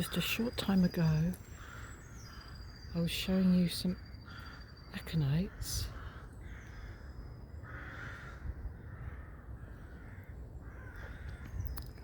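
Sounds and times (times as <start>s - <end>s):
crows cawing: 0.0s - 2.9s, 4.0s - 11.6s.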